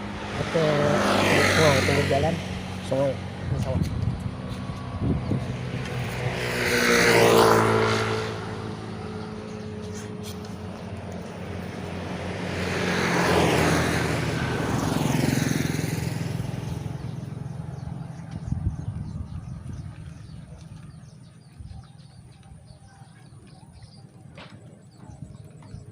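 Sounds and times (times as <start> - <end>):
low engine hum: 0.0 - 25.9
road vehicles passing: 0.0 - 25.9.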